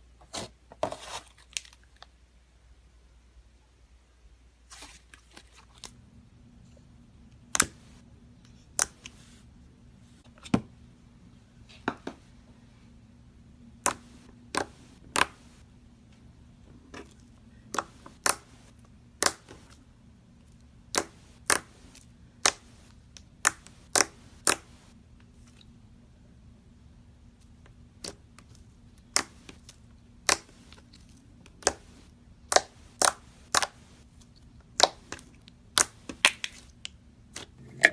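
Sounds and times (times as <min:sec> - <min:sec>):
faint steady hum: 0:01.8 - 0:37.9.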